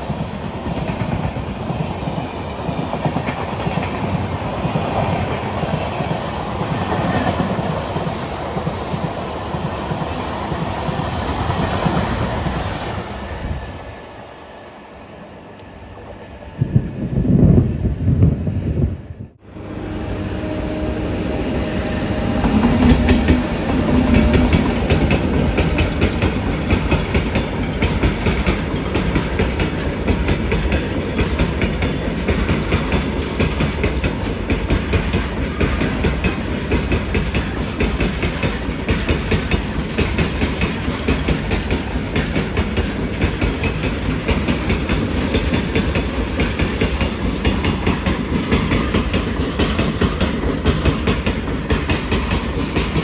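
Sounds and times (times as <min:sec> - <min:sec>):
train wheels clattering over rails: 0:00.0 - 0:13.7, 0:21.4 - 0:53.0.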